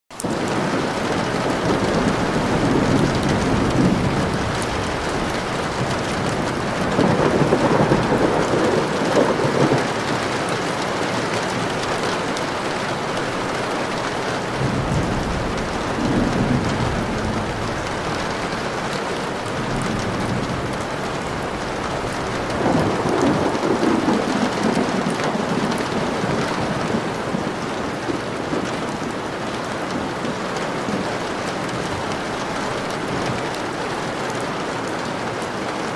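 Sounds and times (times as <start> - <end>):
steady rain: 0.1 - 35.9
thunder rumbling: 0.2 - 34.7.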